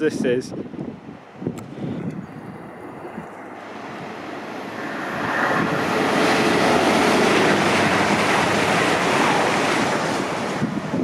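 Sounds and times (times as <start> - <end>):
train wheels rumbling on rail: 0.6 - 11.0.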